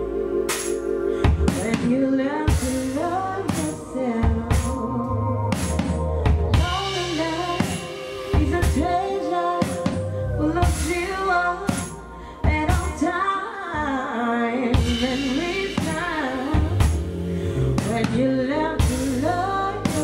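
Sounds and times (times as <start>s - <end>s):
drum kit: 0.0s - 13.9s, 14.7s - 20.0s
bass: 0.0s - 20.0s
woman singing into microphone: 1.1s - 20.0s.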